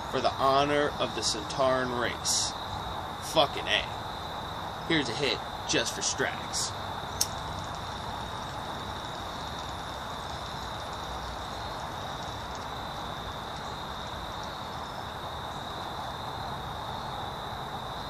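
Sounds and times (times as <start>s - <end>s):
high-pitched insect drone: 0.0s - 18.0s
outdoor background hiss: 0.0s - 18.0s.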